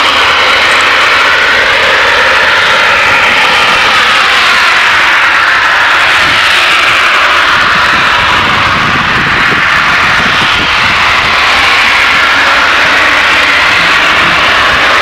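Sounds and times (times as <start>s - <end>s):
gas venting jet-like hiss: 0.0s - 15.0s.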